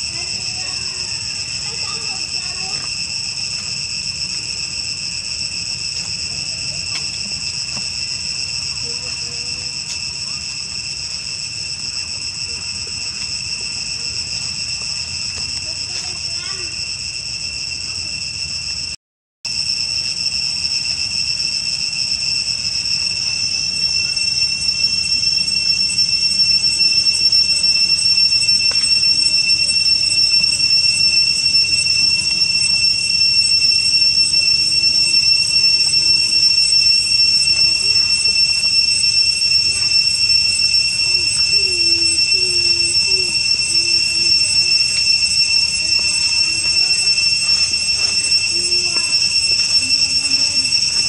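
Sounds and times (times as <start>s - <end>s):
shrill insect drone: 0.0s - 51.0s.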